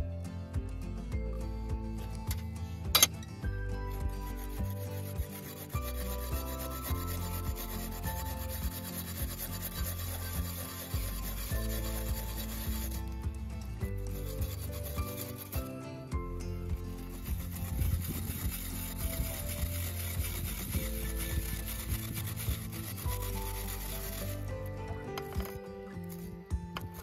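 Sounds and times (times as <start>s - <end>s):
background music: 0.0s - 27.0s
root rasping on metal grater: 2.2s - 3.2s, 3.8s - 27.0s.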